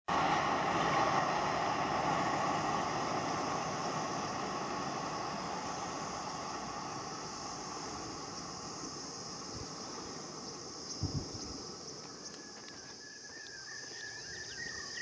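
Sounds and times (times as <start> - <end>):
train wheels on rails: 0.1 - 13.6.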